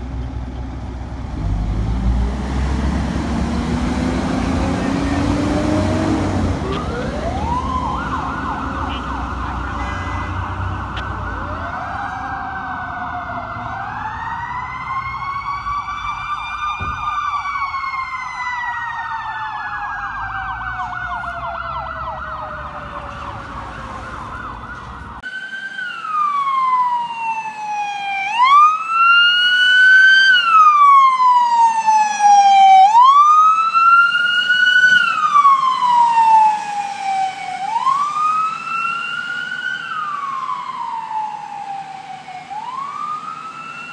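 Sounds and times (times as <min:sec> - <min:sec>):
fire engine siren wailing: 0:01.2 - 0:43.9
siren yelping: 0:04.2 - 0:43.9.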